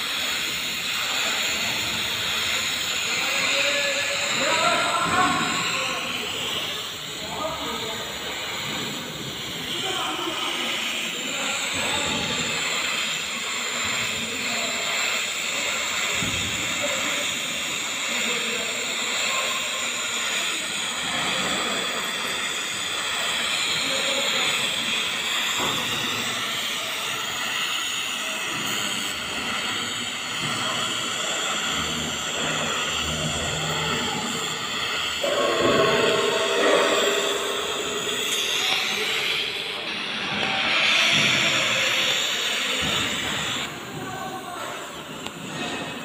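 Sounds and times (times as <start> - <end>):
welding torch hissing: 0.0 - 46.0.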